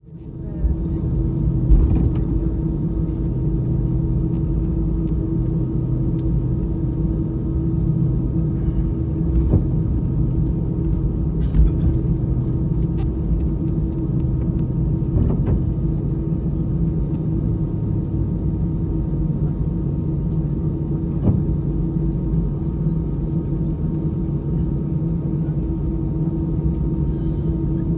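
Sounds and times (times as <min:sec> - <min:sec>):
jet engines idling in cabin: 0:00.0 - 0:27.9.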